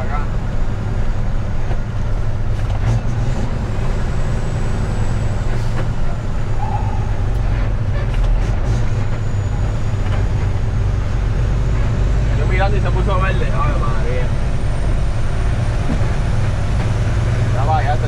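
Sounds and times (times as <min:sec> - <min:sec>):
truck diesel engine droning: 0:00.0 - 0:18.0.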